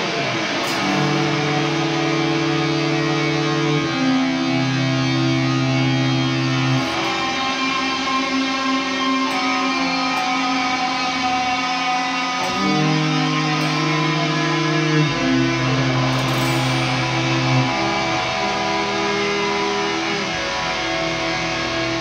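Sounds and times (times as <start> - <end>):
bass guitar: 0.0 - 22.0
guitar playing long held notes: 0.0 - 22.0.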